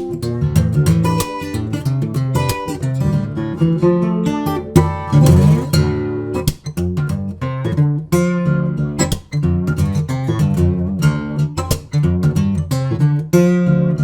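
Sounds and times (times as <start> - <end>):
acoustic guitar picking and strumming: 0.0 - 14.0.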